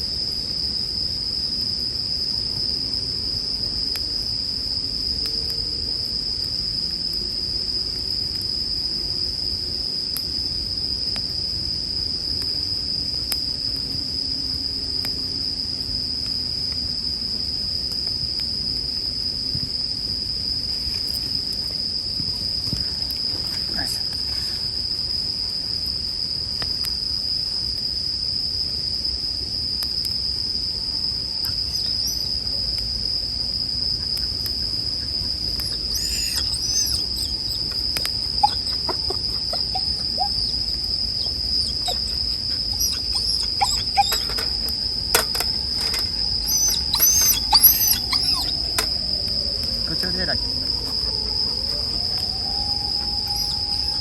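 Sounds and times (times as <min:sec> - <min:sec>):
crickets chirping chorus: 0:00.0 - 0:54.0
campfire crackles: 0:00.1 - 0:42.7, 0:48.6 - 0:53.3.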